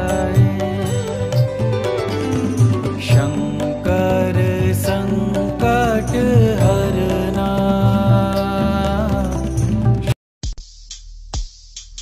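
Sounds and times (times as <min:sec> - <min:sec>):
devotional song with steady beat: 0:00.0 - 0:10.2.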